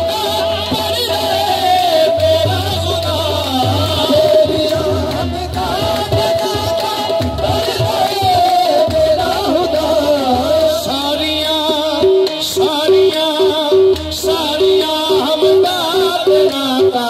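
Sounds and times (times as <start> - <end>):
drum beats: 0.0 - 17.0
ornamented sung melody: 0.0 - 17.0.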